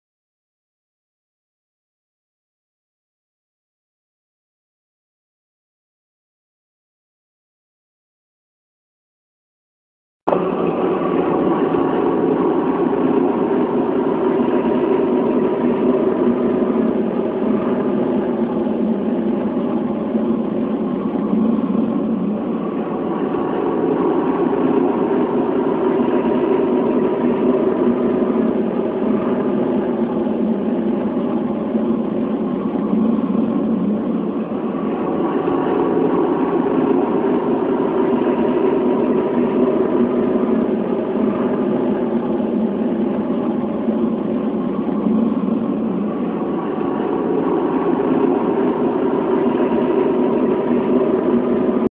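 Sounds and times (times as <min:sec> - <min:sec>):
loud steady droning hum: 0:10.3 - 0:51.9.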